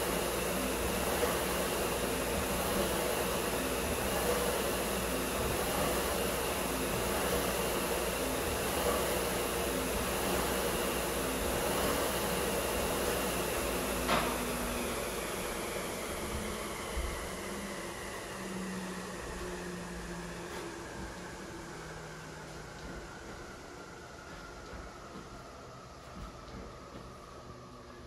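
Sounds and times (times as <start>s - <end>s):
fan flywheel whirring: 0.0s - 28.0s.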